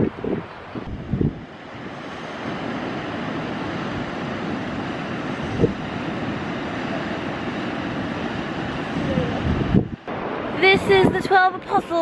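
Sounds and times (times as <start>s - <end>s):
ocean surf breaking on cliffs: 0.0s - 12.0s
wind roaring: 0.0s - 12.0s.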